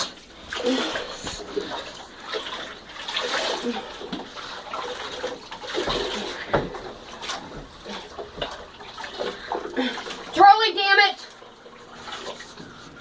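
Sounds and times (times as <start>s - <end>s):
water splashing in a tub: 0.0s - 13.0s.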